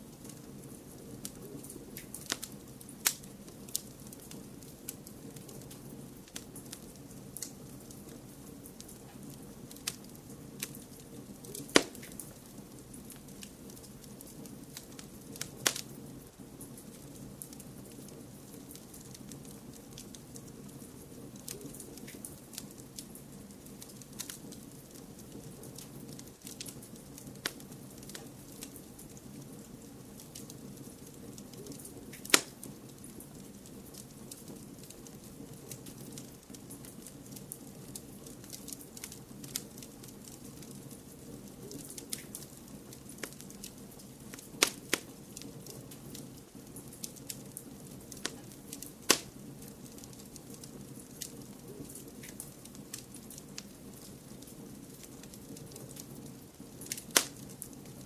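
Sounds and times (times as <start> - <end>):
low white noise hiss: 0.0 - 58.0
wood fire crackling: 0.0 - 58.0
sharp fire pops: 0.1 - 16.0, 16.6 - 58.0.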